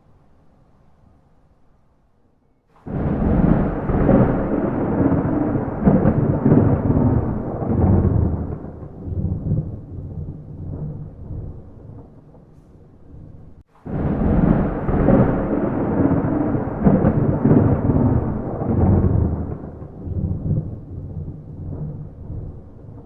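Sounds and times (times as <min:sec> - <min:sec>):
thunder rumbling: 0:02.7 - 0:23.0.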